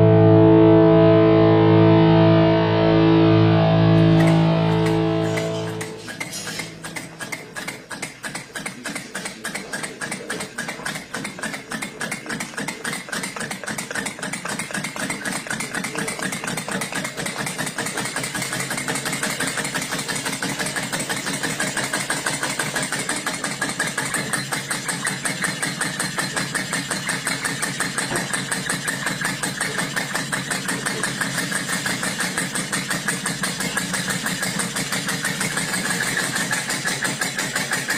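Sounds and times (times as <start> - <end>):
steam engine running: 0.0 - 37.9.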